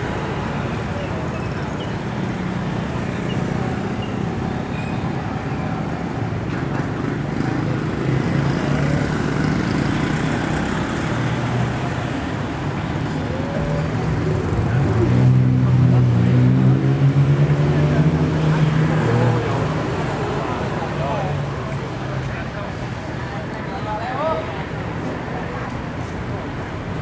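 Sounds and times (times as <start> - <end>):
street traffic hum: 0.0 - 27.0.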